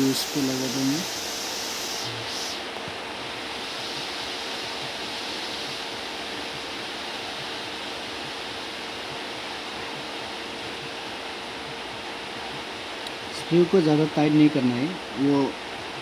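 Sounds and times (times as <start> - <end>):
background hiss: 0.0 - 16.0
faint steady hum: 0.0 - 16.0.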